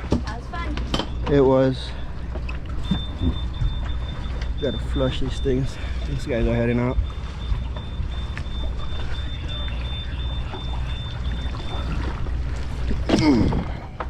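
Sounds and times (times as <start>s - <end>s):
boat engines rumbling: 0.0s - 14.0s
thin high whine: 0.9s - 13.9s.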